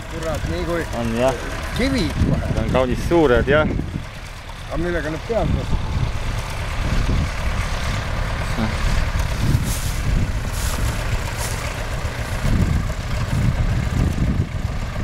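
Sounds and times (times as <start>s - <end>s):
hay baler machinery working: 0.0s - 15.0s
tractor diesel engine under load: 0.0s - 15.0s.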